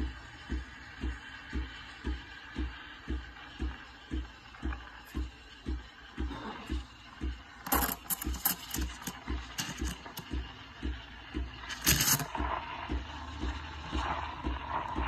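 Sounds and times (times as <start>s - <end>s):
steam wand hissing into milk: 0.0s - 15.0s.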